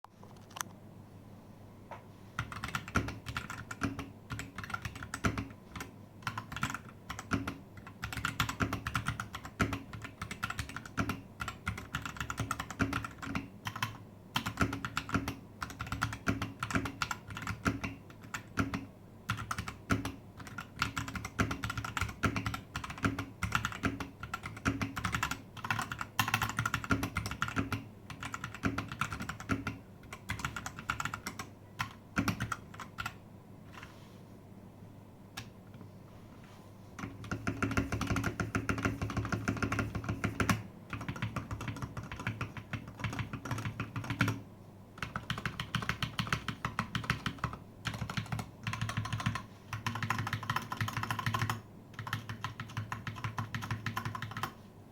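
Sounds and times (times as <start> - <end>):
mechanical keyboard typing: 2.4 - 33.2, 37.0 - 44.4, 45.0 - 54.6.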